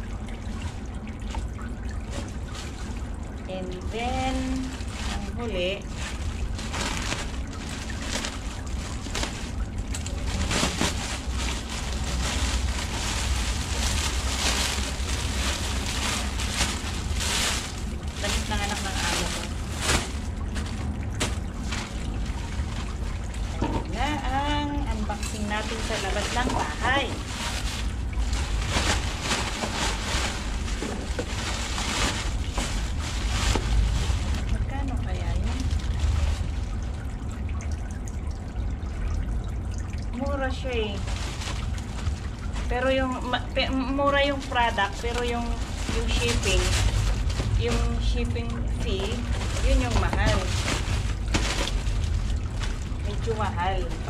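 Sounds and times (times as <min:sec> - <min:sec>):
plastic packaging crinkling: 0:00.0 - 0:37.1, 0:40.5 - 0:54.0.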